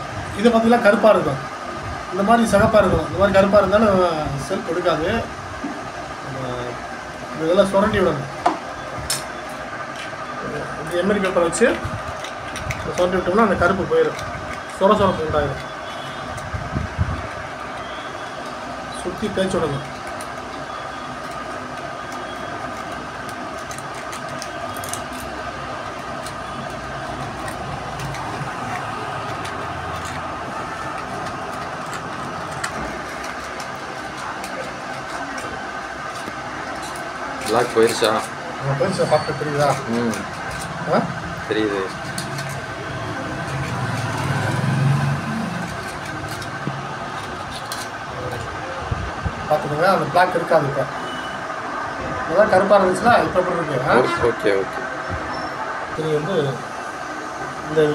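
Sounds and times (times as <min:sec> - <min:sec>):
engine running: 0:00.0 - 0:57.9
steady mechanical hum: 0:00.0 - 0:57.9.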